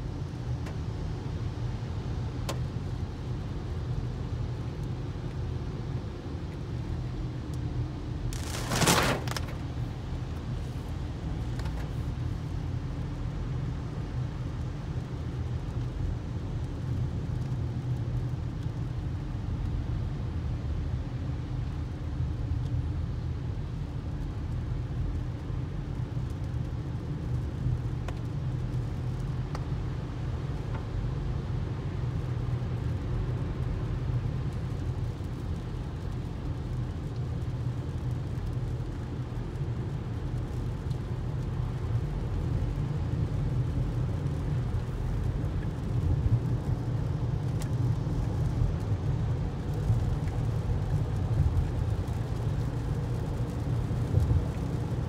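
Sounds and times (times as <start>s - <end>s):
car cabin road and engine rumble: 0.0s - 55.0s.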